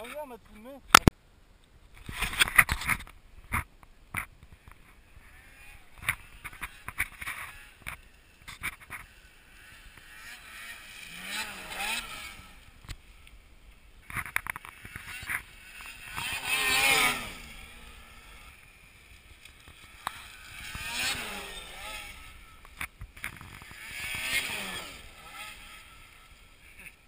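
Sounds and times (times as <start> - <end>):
snowmobile engines revving: 0.0 - 1.1, 4.5 - 27.0.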